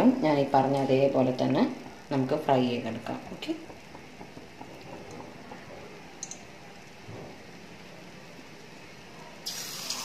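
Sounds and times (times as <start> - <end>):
prawn deep-frying sizzle: 0.0 - 10.0.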